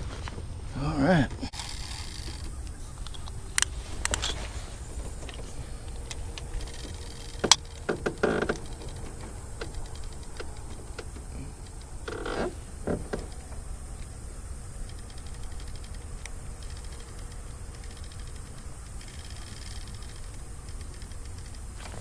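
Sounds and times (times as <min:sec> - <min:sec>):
steady low rumble: 0:00.0 - 0:22.0
knocks and clicks in boat: 0:01.9 - 0:22.0.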